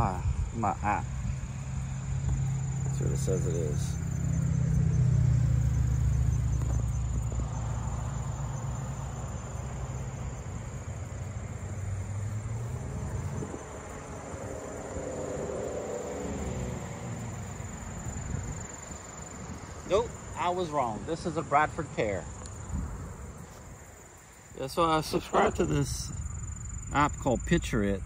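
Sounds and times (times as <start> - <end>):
high-pitched insect buzz: 0.0 - 28.0
vehicle engine hum: 0.0 - 28.0.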